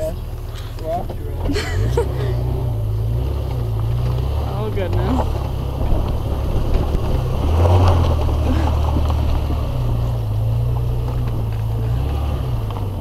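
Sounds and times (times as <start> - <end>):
car engine running under load: 0.0 - 13.0.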